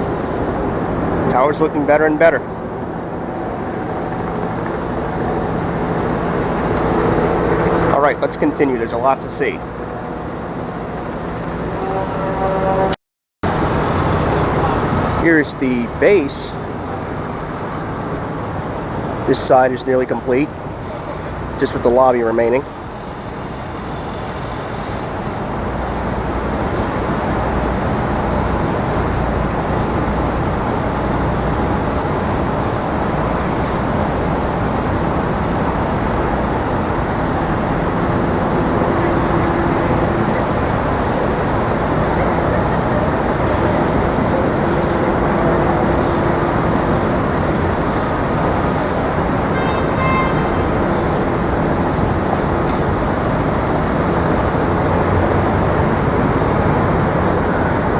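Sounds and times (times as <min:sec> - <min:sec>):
cars and trucks passing: 0:00.0 - 0:57.9.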